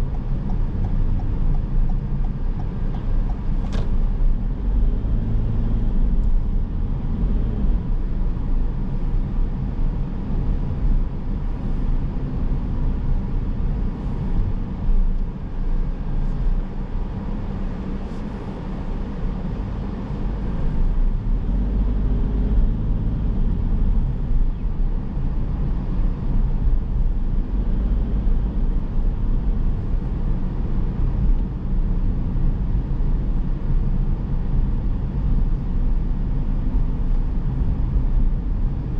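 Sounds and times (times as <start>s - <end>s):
car engine rumble: 0.0s - 38.9s
tyre road noise: 0.0s - 38.9s.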